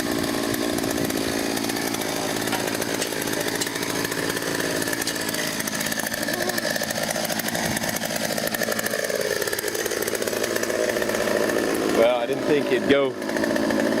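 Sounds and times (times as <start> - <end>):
chainsaw cutting tree limb: 0.0 - 14.0.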